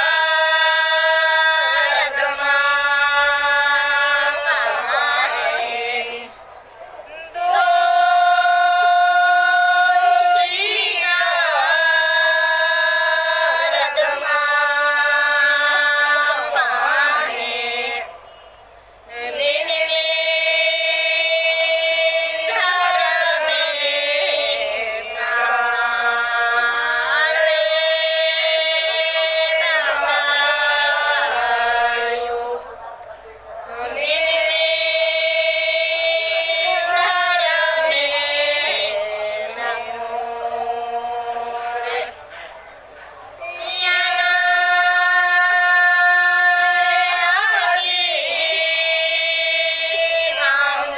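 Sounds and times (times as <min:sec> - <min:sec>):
person chanting a prayer: 0:00.0 - 0:18.2, 0:19.0 - 0:42.6, 0:43.2 - 0:50.9.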